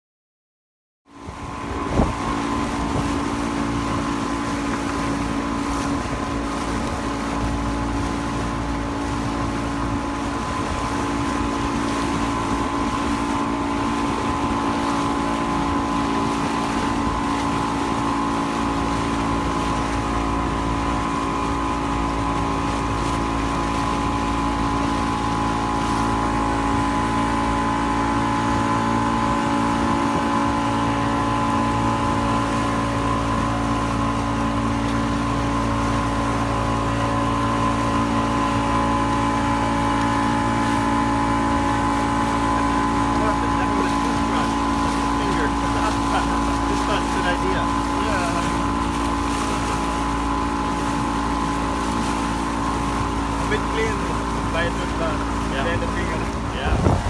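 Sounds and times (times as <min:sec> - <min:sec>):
motorboat engine running: 0:01.1 - 0:57.0.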